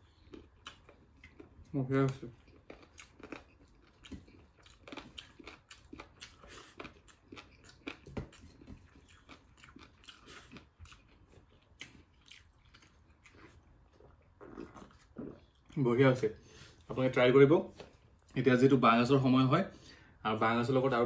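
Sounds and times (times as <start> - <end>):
man chewing food: 0.0 - 16.9, 17.7 - 18.4.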